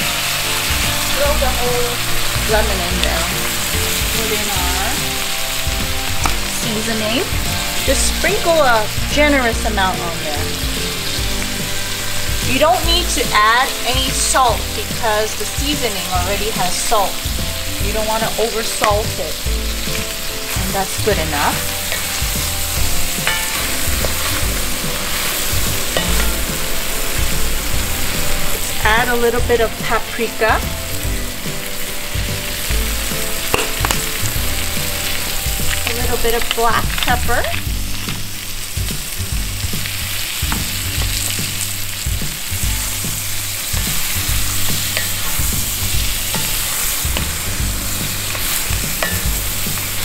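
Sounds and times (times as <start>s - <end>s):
food sizzling in butter: 0.0s - 50.0s.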